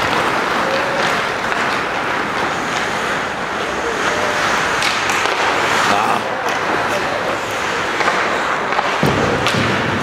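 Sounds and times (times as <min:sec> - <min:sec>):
skates scraping ice: 0:00.0 - 0:10.0
spectators in stands: 0:00.0 - 0:10.0.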